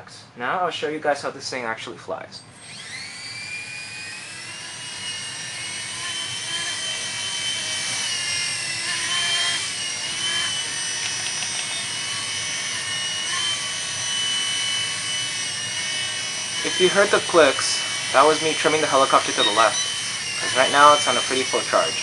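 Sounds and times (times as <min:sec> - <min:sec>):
micro helicopter rotor whining: 0:02.6 - 0:22.0.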